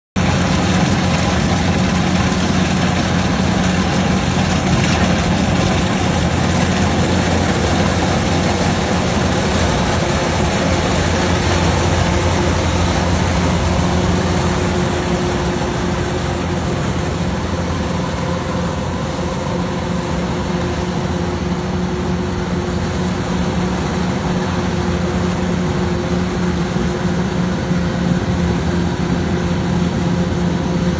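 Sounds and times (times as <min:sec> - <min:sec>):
combine harvester engine humming: 0:00.2 - 0:30.9.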